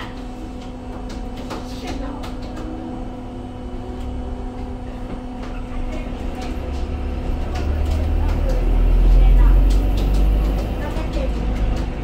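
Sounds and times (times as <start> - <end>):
bus cabin hum and rumble: 0.0 - 12.0.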